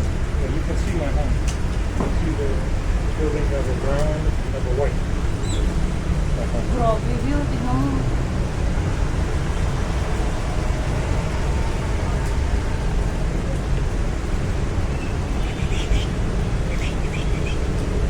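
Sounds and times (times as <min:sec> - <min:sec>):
rain hiss: 0:00.0 - 0:18.0
storm wind: 0:00.0 - 0:18.0
wind buffeting microphone: 0:00.0 - 0:18.0.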